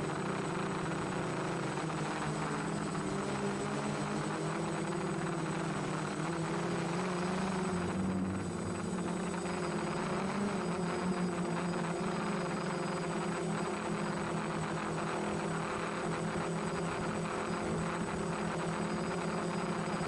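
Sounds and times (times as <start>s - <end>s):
quadcopter motors buzzing: 0.0s - 20.0s.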